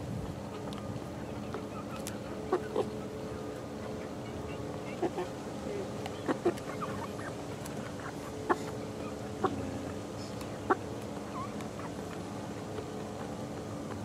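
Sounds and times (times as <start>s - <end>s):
steady low hum: 0.0s - 14.0s
chickens clucking: 0.4s - 14.0s.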